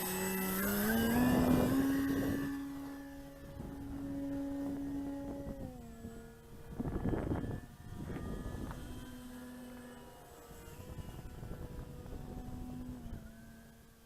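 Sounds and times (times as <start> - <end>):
model plane motor whine: 0.0 - 14.0
wind rumble on microphone: 0.0 - 14.0.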